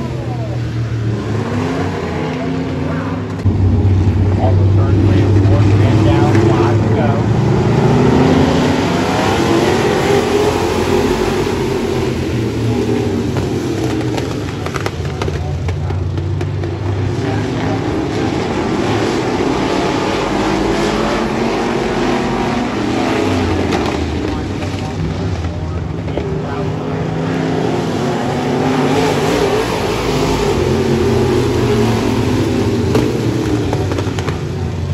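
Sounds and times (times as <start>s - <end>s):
racing car engines: 0.0s - 34.9s.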